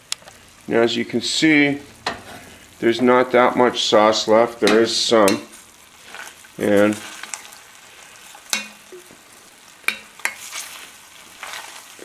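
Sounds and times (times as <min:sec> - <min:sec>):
chicken sizzling in a roaster: 0:00.0 - 0:12.0.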